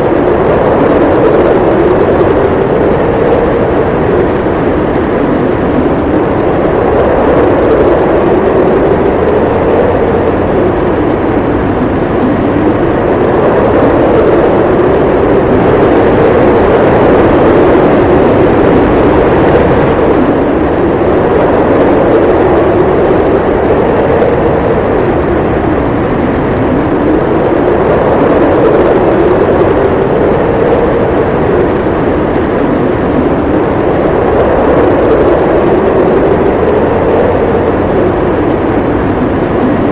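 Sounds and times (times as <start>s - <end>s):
wind howling: 0.0s - 39.9s.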